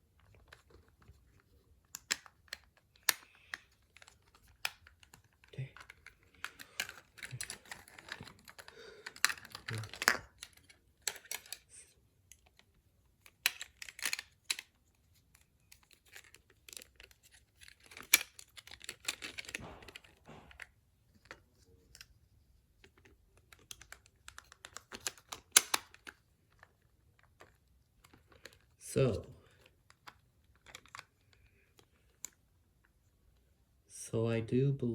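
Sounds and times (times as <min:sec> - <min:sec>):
plastic toy parts clicking: 0:00.2 - 0:11.7, 0:12.3 - 0:22.1, 0:22.8 - 0:28.8, 0:29.6 - 0:32.4.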